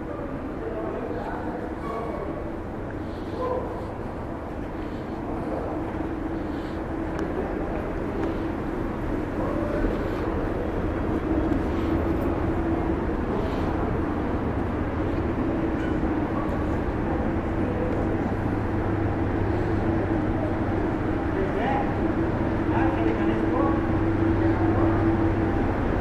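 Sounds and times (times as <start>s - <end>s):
machinery hum: 0.0s - 26.0s.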